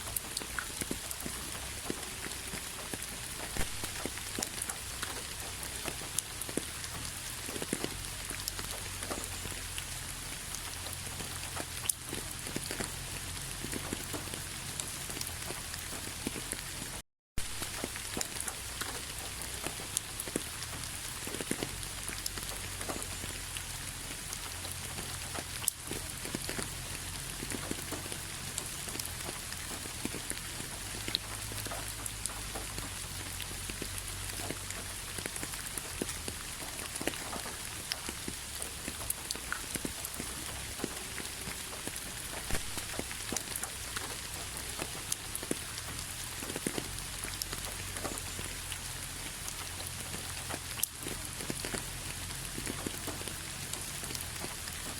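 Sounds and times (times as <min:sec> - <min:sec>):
raindrops ticking on a surface: 0:00.0 - 0:54.9
steady rainfall: 0:00.0 - 0:54.9.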